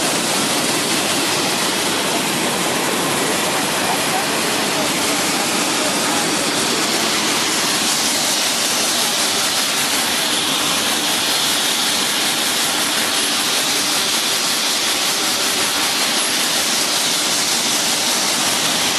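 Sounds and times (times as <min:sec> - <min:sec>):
washing machine water and air hiss: 0:00.0 - 0:18.9.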